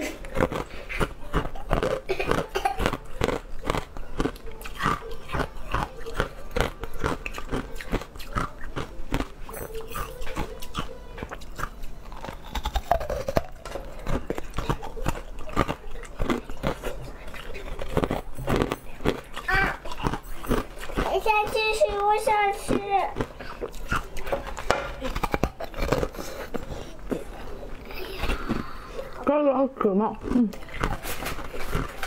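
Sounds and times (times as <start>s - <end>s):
chewing candy: 0.0s - 32.0s.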